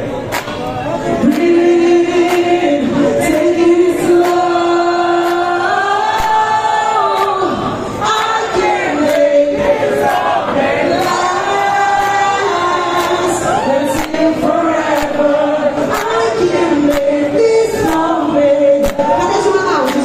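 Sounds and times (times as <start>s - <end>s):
backing track with steady beat: 0.0s - 20.0s
woman singing into a microphone: 1.1s - 9.8s, 10.8s - 20.0s.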